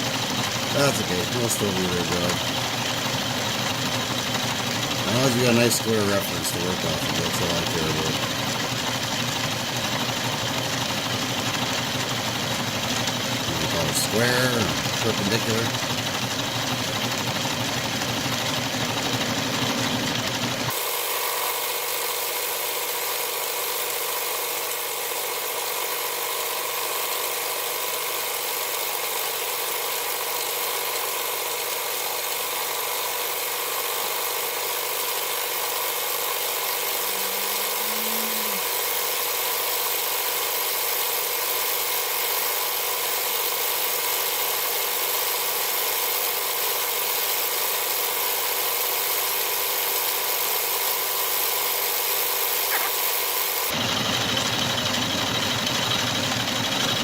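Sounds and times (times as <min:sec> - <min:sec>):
metal lathe milling steel: 0:00.0 - 0:57.0.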